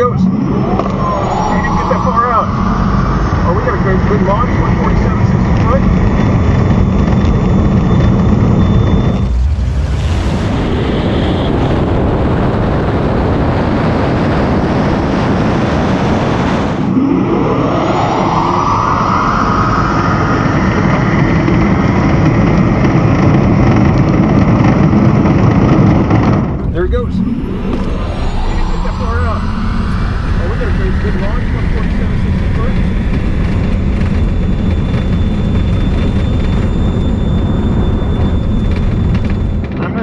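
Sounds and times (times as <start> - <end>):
car engine whine rising: 0.0 - 40.0
road and wind noise: 0.0 - 40.0.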